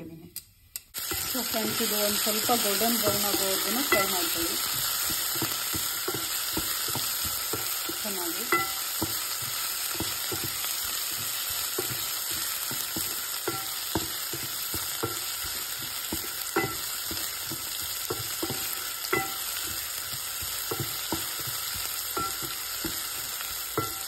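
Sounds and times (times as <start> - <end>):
vegetables sizzling in hot oil: 0.8 - 24.0
wooden spatula knocking against pot: 2.5 - 24.0.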